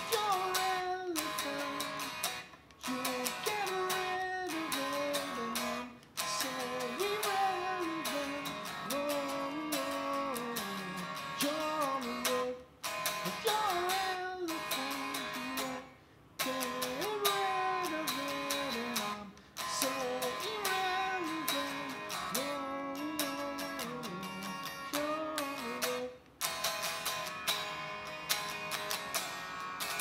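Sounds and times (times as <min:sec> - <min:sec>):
electric guitar melody: 0:00.0 - 0:30.0.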